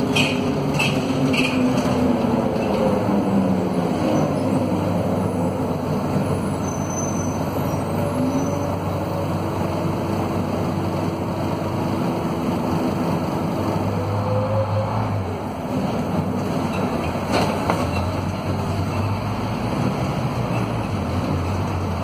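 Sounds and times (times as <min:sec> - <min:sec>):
bus diesel engine: 0:00.0 - 0:22.0.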